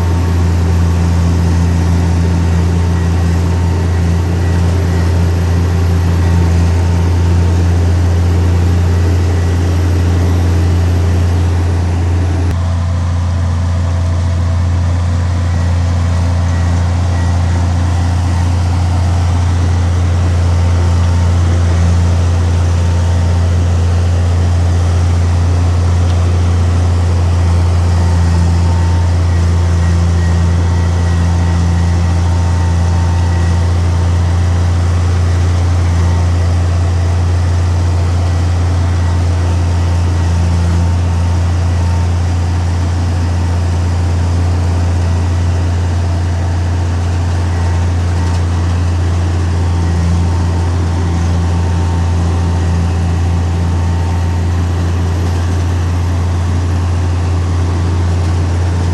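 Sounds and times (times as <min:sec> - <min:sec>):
heavy diesel engine droning: 0:00.0 - 0:58.9.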